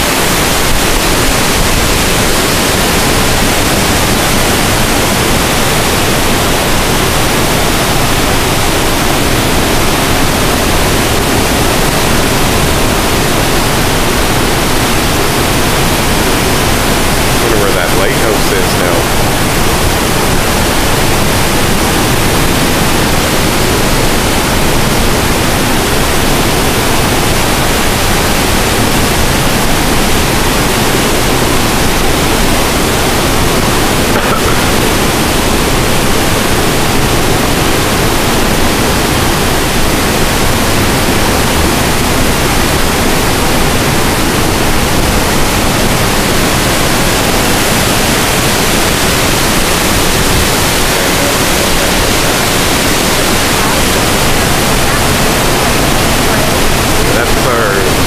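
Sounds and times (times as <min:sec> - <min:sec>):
ship wake rushing water: 0:00.0 - 0:58.0.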